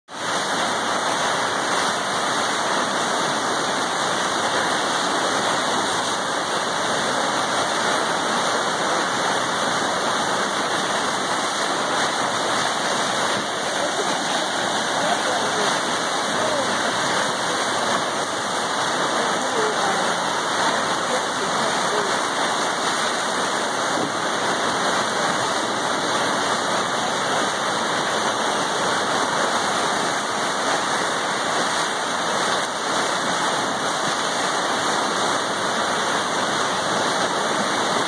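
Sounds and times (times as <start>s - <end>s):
whitewater rapids rushing: 0.1s - 38.0s.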